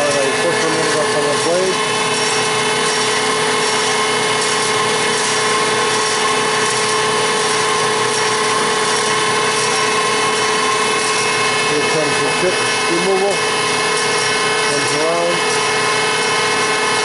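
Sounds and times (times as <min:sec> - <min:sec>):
bandsaw humming with whine: 0:00.0 - 0:17.0.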